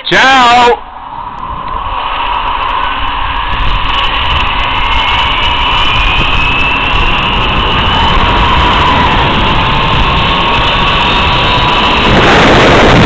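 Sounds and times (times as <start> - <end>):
wind rushing: 0.8 - 13.0
pulley whining on cable: 1.5 - 13.0.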